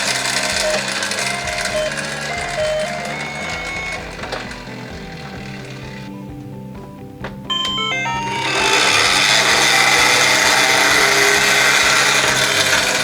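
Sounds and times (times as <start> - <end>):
rising run of chime notes: 0.0 - 6.0, 7.5 - 13.0
loud noisy rattle: 0.0 - 6.1, 8.1 - 13.0
background music: 0.0 - 13.0.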